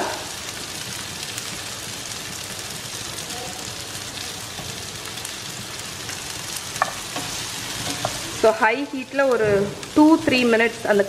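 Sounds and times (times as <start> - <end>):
vegetables sizzling in butter: 0.0 - 11.0.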